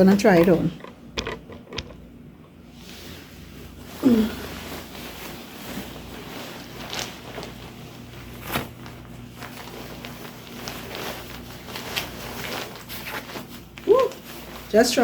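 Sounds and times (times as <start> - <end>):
fabric rustling: 2.0 - 15.0.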